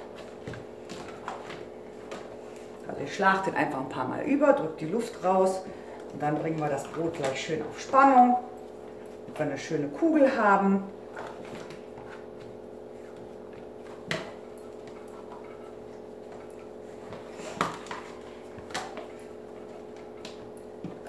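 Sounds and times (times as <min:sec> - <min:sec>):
appliance hum: 0:00.0 - 0:21.0.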